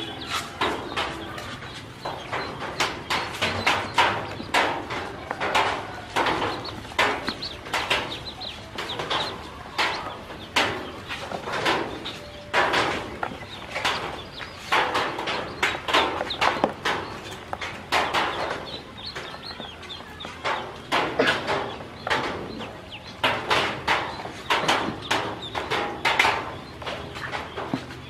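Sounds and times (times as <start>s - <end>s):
ducklings peeping: 0.0s - 28.0s.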